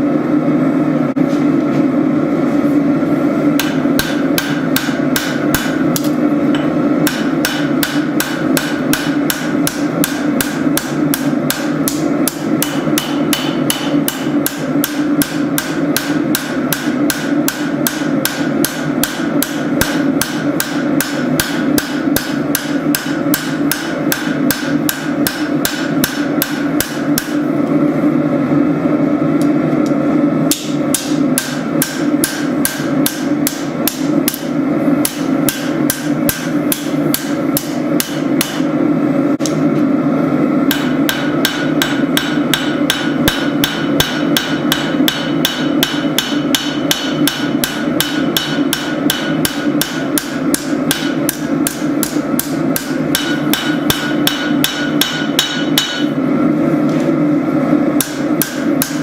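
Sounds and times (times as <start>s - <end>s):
hammer striking steel on anvil: 3.6s - 27.4s, 30.5s - 38.8s, 40.7s - 56.2s, 58.0s - 59.0s.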